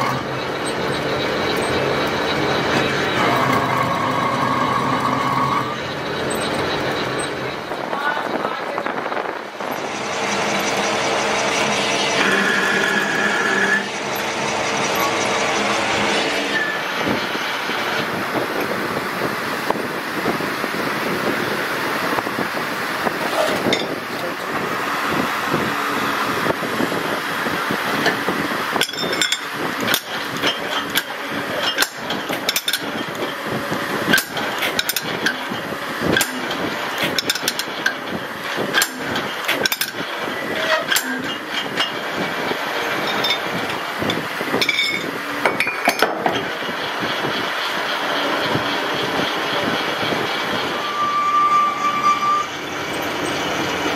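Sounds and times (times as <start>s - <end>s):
lathe running: 0.0s - 53.9s.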